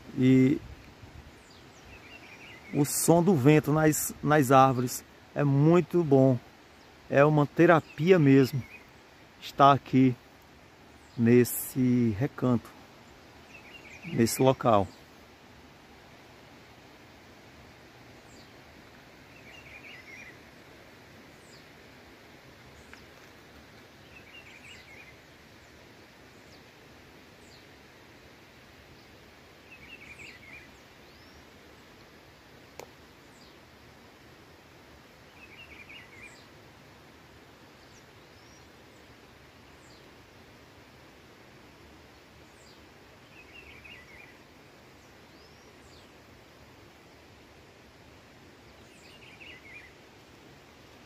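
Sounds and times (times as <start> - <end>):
faint outdoor hiss: 0.0 - 51.0.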